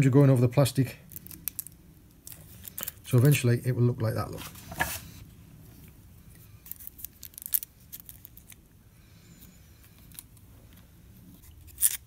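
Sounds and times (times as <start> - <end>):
faint thread and foil crinkles: 1.1 - 3.4, 4.6 - 12.0.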